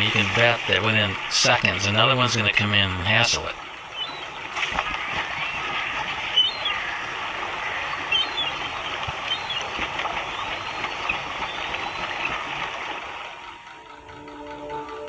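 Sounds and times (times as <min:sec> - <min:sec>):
river water rushing: 0:00.0 - 0:14.1.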